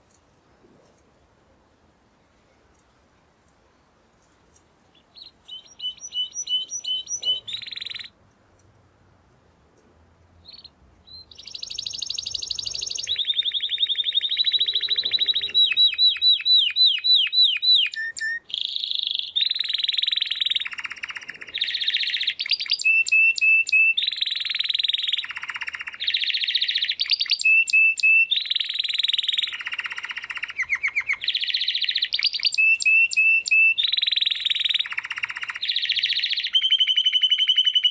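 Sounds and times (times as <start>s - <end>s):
canary singing in trills: 4.9s - 8.2s, 10.4s - 37.9s.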